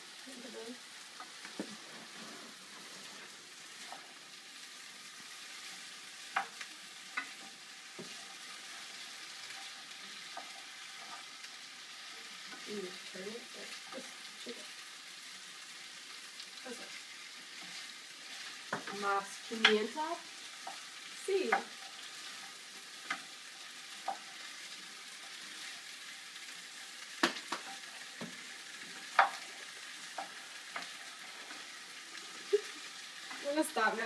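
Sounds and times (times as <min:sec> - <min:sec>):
potatoes sizzling in a pan: 0:00.0 - 0:34.0.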